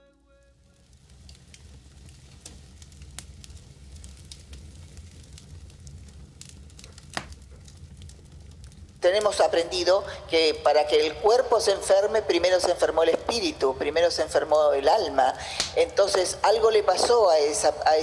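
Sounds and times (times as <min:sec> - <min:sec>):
crackles and pops: 0:00.0 - 0:18.0
low steady rumble: 0:00.0 - 0:18.0.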